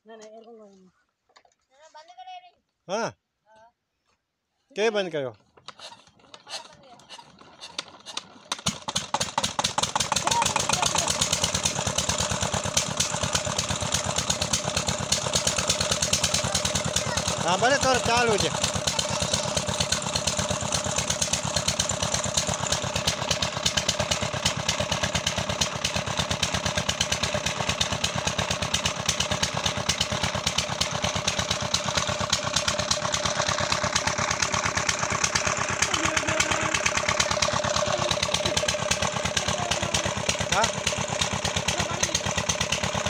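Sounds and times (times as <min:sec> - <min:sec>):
engine running with rapid firing: 0:06.3 - 0:43.0.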